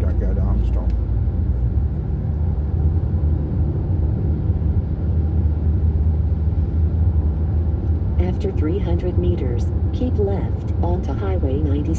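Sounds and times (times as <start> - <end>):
vehicle engine and road noise: 0.0 - 11.9.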